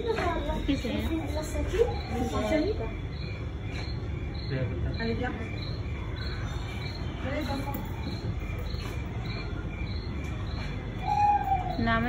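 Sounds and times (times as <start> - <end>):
crickets chirping: 0.0 - 12.0
low background hum: 0.0 - 12.0.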